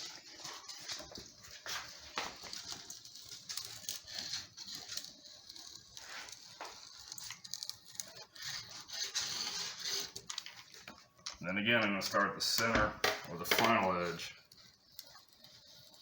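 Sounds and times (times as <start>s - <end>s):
roller scratching on screen mesh: 0.0s - 16.0s.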